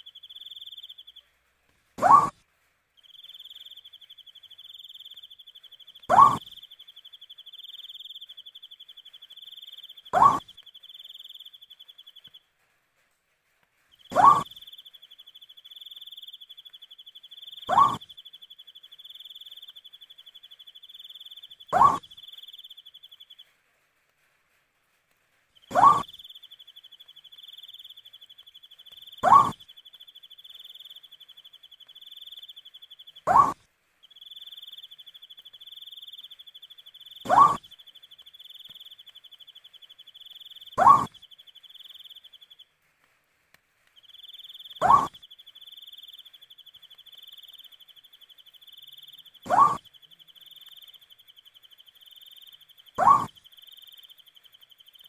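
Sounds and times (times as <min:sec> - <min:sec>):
owl hooting: 0:02.0 - 0:02.4, 0:03.2 - 0:12.3, 0:14.1 - 0:23.2, 0:25.6 - 0:33.6, 0:34.2 - 0:42.6, 0:44.0 - 0:55.0.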